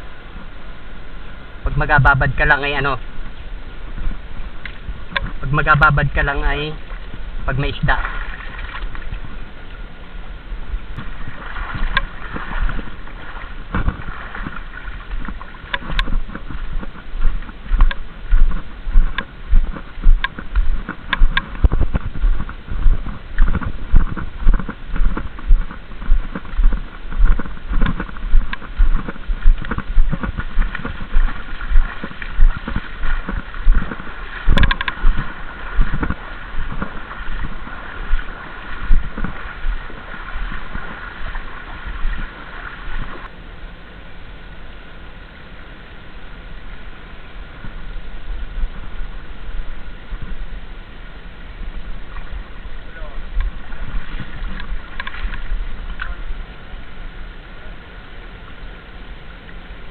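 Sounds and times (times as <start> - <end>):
legs wading through shallow water: 0.0 - 43.4, 46.3 - 57.2
faint high hum: 0.0 - 59.9.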